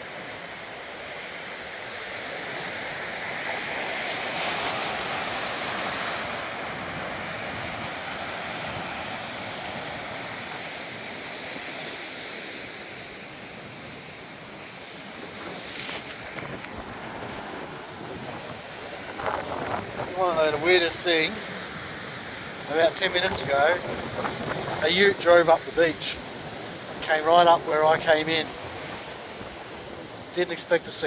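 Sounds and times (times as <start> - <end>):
ocean surf breaking on beach: 0.0 - 31.0
wind: 0.0 - 31.0.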